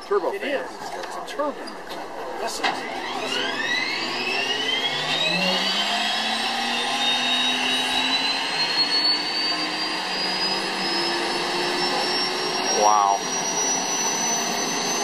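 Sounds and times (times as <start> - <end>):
jet turbine engine spooling up: 2.6 - 15.0.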